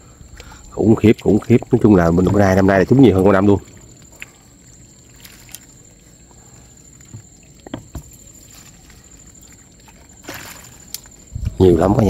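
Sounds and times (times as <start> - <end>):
water splashing and sloshing: 0.0 - 11.6.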